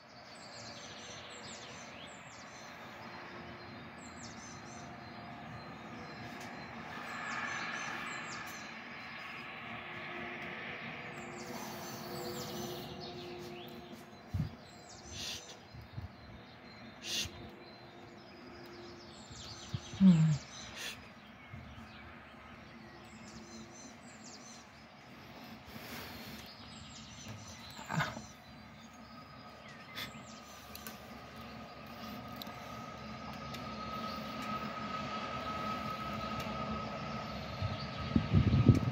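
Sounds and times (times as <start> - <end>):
distant town hum: 0.0 - 38.9
songbird singing: 0.0 - 38.9.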